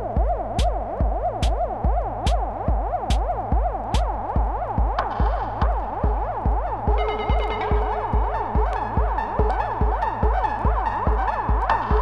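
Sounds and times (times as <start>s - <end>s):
kick drum: 0.0s - 12.0s.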